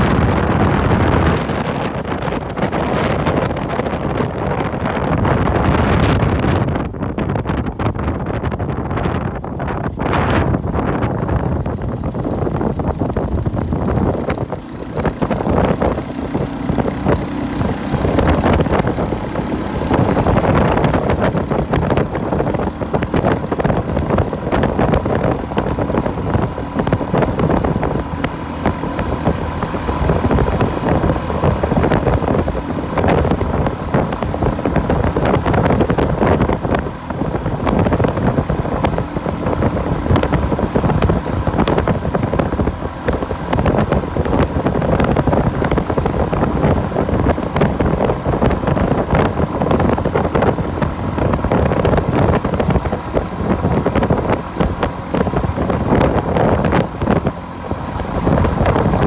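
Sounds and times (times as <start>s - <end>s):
motorbike engine running: 0.0s - 59.0s
wind rushing over microphone: 0.0s - 59.0s.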